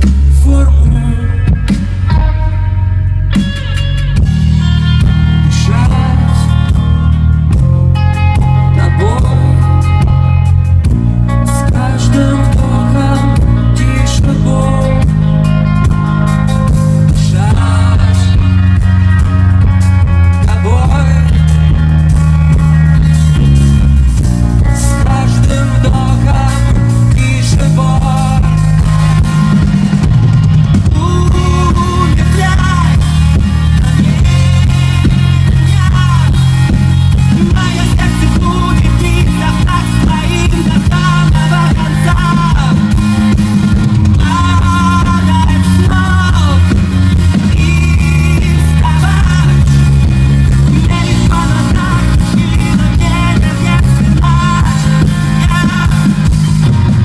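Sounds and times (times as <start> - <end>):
man singing: 0.0 - 3.1, 5.0 - 19.3, 20.0 - 22.1, 24.5 - 29.8, 30.8 - 56.7
live rock band: 0.0 - 57.0.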